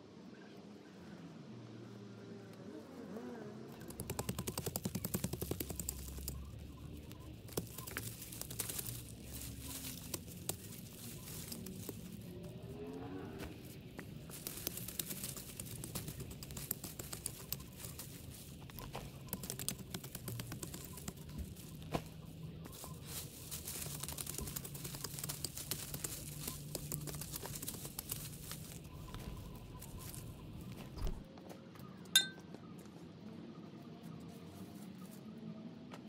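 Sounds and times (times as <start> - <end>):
faint low hum: 0.0 - 36.0
crackling and rustling of dry debris: 3.7 - 33.0.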